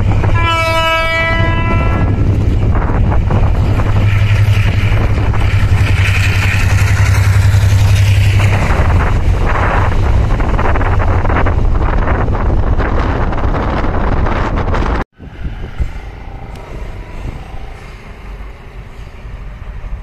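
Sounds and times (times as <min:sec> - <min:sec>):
diesel locomotive engine droning: 0:00.0 - 0:20.0
train wheels rattling on rails: 0:00.0 - 0:20.0.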